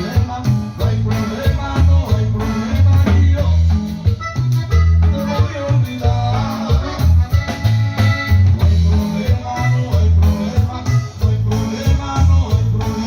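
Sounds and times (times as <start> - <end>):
bass line: 0.0 - 13.0.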